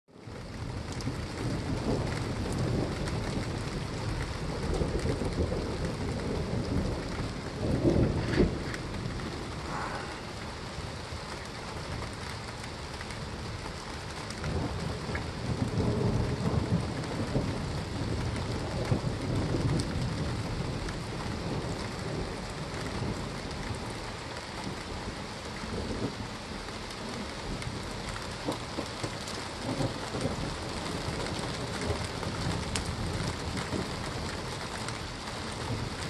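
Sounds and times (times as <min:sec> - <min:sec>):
steady rain: 0:00.1 - 0:36.0
low rumbling thunder: 0:00.2 - 0:36.0.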